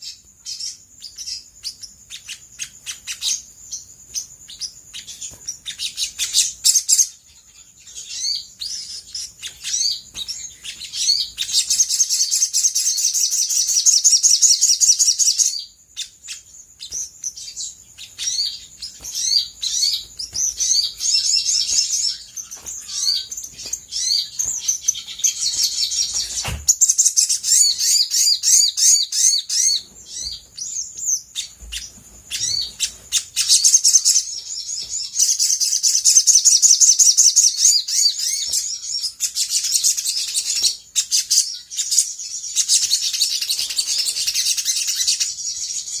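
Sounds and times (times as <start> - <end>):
bird singing high chirps: 0.0 - 46.0.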